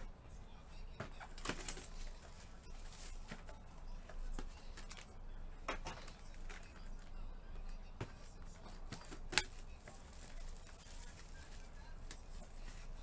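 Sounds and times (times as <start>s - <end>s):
trading cards and packaging rustling: 0.0s - 13.0s.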